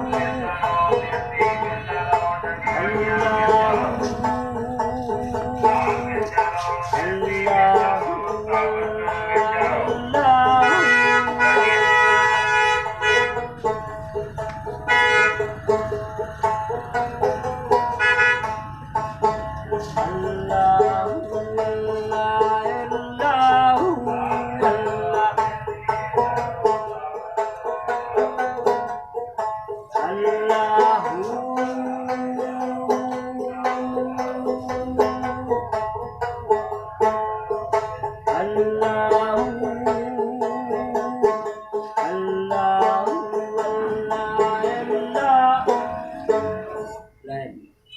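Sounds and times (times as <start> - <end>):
plucked string instrument melody: 0.0 - 47.2.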